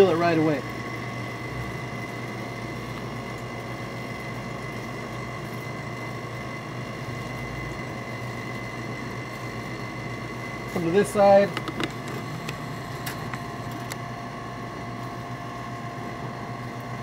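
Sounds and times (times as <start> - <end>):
swamp cooler motor hum: 0.0 - 17.0.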